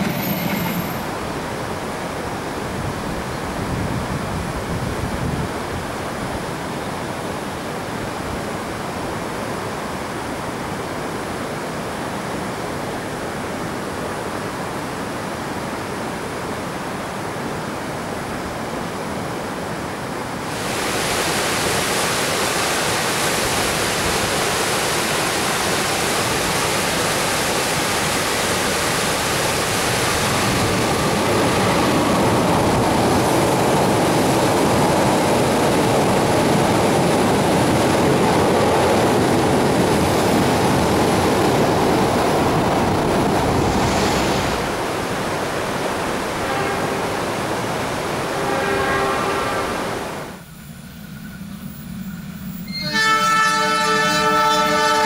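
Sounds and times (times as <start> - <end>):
fast-flowing river rushing: 0.0 - 50.4
train rumbling: 0.0 - 55.0
outdoor hiss: 8.8 - 37.8, 38.4 - 55.0.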